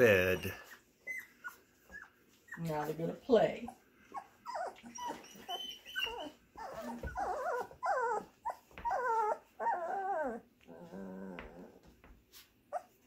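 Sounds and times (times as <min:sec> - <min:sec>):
puppies whining and yipping: 0:00.1 - 0:03.0, 0:03.7 - 0:13.0.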